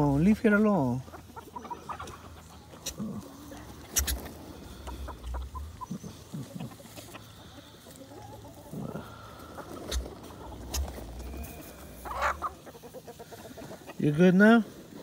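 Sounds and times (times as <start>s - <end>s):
turkeys clucking and calling: 0.0s - 15.0s.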